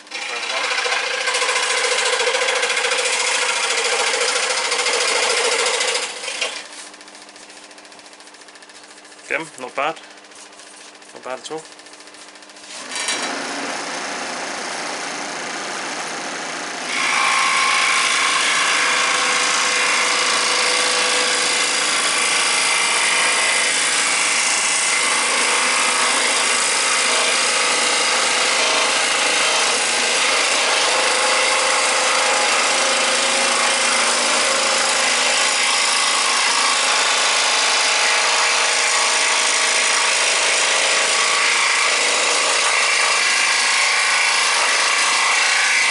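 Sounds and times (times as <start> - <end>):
electric scroll saw cutting wood: 0.0 - 45.9.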